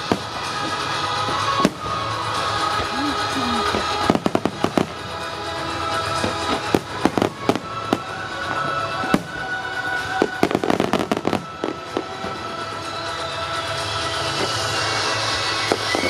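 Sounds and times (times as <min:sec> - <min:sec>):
fireworks bursting with sharp bangs: 0:00.0 - 0:16.0
music: 0:00.0 - 0:16.0.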